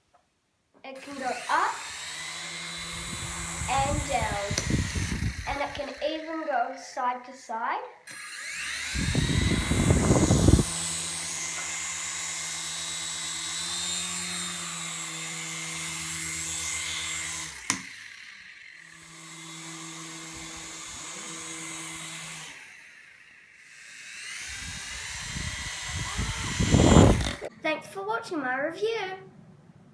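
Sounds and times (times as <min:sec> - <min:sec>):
toy helicopter motor whining: 0:00.9 - 0:06.8, 0:08.0 - 0:27.5.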